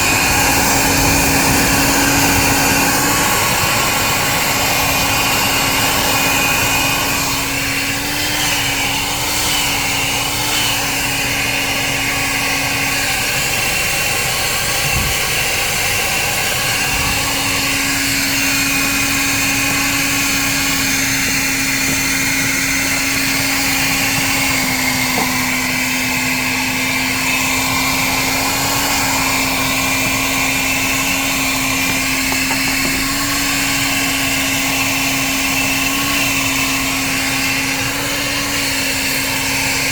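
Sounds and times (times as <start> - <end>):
shop vacuum running: 0.0 - 39.9.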